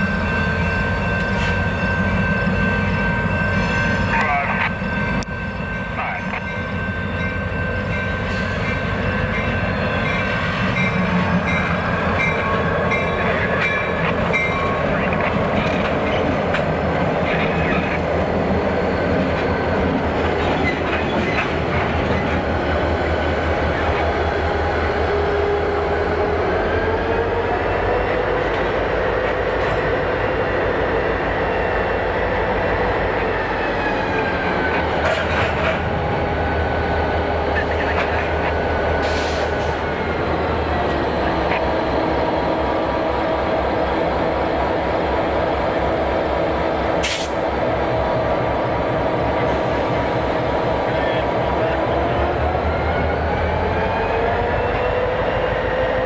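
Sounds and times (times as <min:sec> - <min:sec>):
train rolling past: 0:00.0 - 0:56.0.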